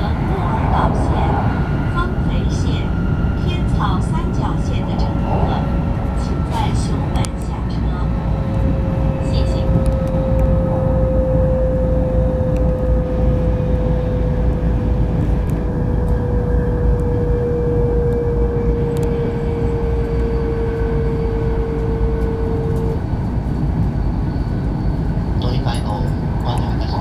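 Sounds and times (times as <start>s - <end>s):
train cabin rumble: 0.0s - 27.0s.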